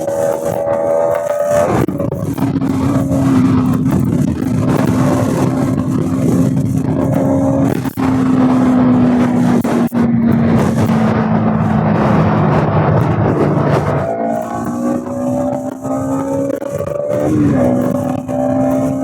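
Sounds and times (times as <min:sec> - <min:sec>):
loud wind rush: 0:00.0 - 0:19.0
motorcycle engine cruising: 0:00.0 - 0:19.0.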